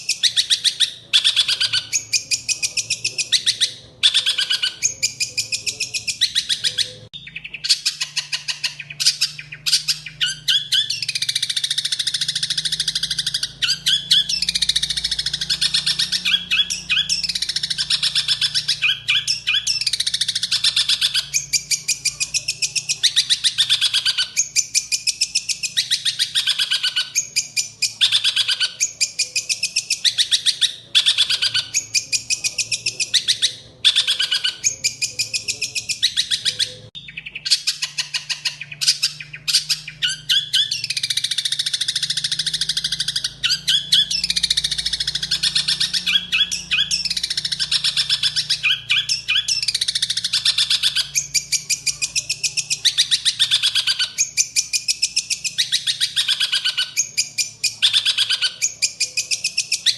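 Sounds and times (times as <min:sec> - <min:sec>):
songbird chattering song: 0:00.0 - 0:59.9.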